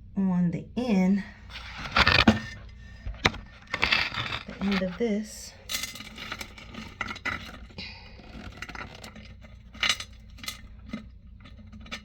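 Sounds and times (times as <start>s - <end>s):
plastic parts clicking and scraping: 1.5s - 12.0s.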